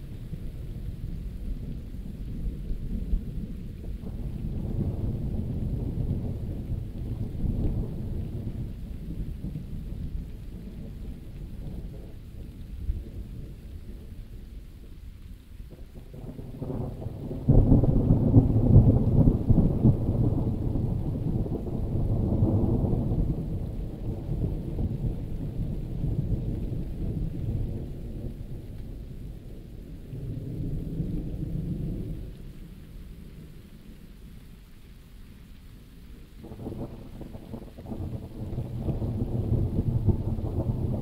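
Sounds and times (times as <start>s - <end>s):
thunder rumbling: 0.0s - 15.0s, 15.7s - 34.1s, 36.4s - 41.0s
steady rain: 0.0s - 41.0s.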